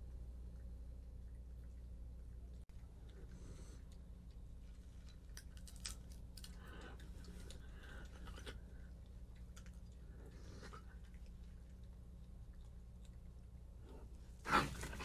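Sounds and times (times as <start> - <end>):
faint low hum: 0.0 - 15.0
raccoons chewing and crunching food: 0.0 - 15.0.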